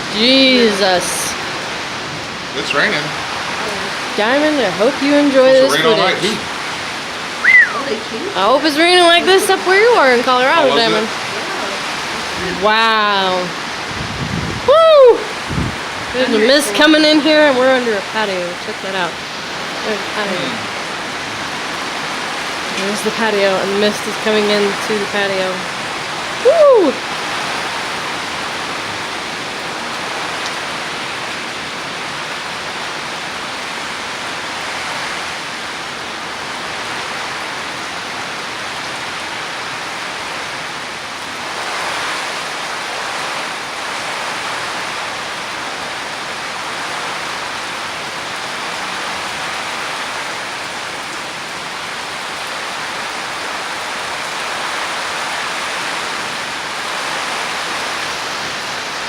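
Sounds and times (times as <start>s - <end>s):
heavy rain rushing: 0.0s - 59.0s.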